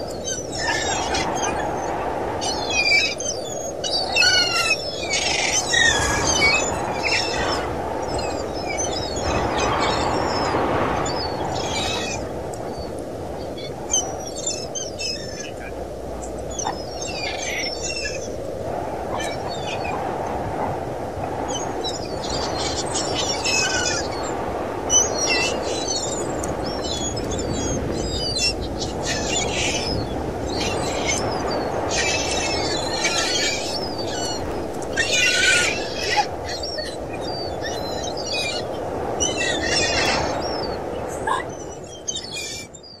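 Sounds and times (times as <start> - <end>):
gulls calling: 0.0 - 43.0.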